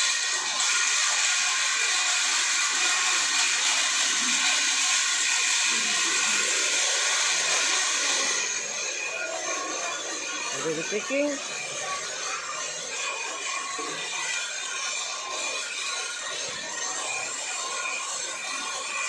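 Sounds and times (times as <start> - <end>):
workshop machinery rushing hiss: 0.0 - 19.0.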